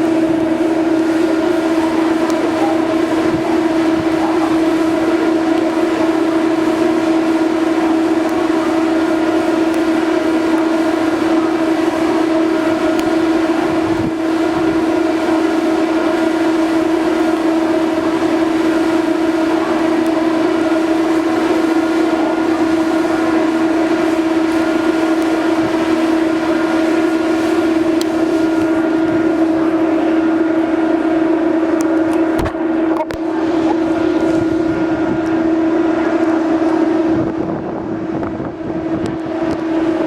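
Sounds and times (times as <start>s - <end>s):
ferry machinery humming drone: 0.0s - 40.0s.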